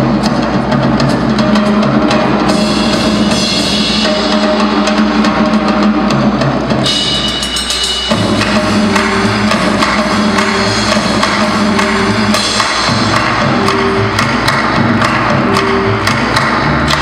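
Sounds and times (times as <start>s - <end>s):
music with drum-kit beat over loudspeakers: 0.0s - 17.0s.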